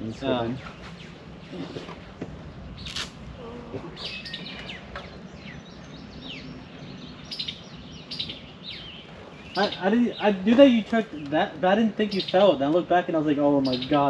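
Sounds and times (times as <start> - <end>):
birds chirping: 0.0 - 14.0
low background rumble: 0.0 - 14.0.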